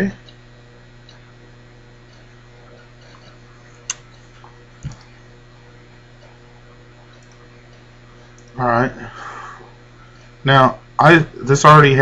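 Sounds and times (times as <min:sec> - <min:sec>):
low hum of room tone: 0:00.0 - 0:12.0.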